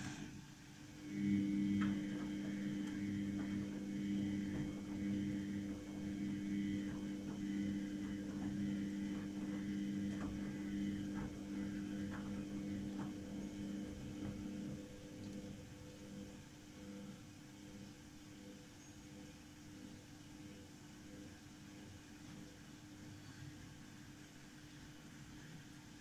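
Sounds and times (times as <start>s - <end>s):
washing machine spinning hum: 0.0s - 26.0s.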